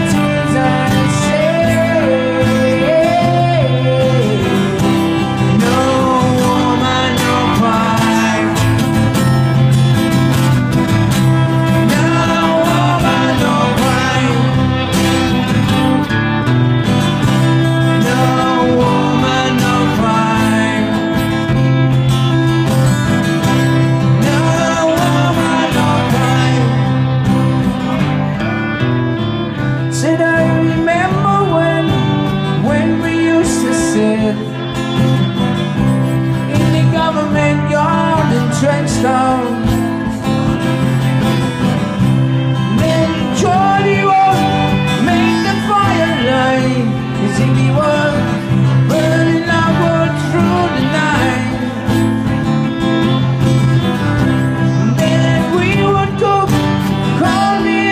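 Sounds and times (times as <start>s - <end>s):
person singing: 0.0s - 9.9s, 11.0s - 16.2s, 17.0s - 28.9s, 29.6s - 41.2s, 41.9s - 57.9s
strummed acoustic guitar: 0.0s - 57.9s.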